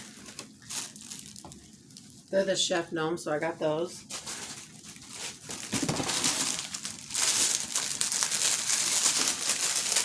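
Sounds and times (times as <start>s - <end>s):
packaging crinkling: 0.0s - 2.3s, 4.0s - 10.0s.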